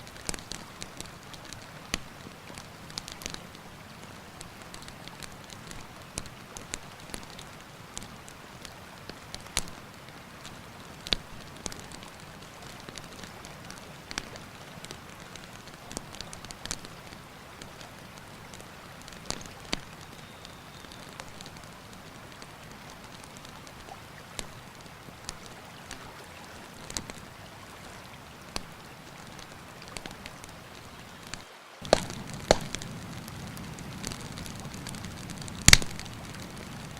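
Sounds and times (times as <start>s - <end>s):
campfire crackling and popping: 0.0s - 36.9s
river rushing: 0.0s - 36.9s.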